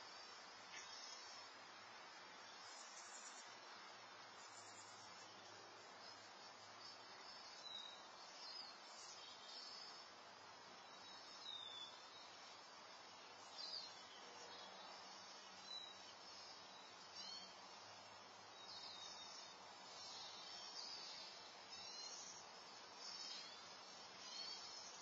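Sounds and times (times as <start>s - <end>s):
small birds chirping: 0.0s - 25.0s
soft steady hiss: 0.0s - 25.0s.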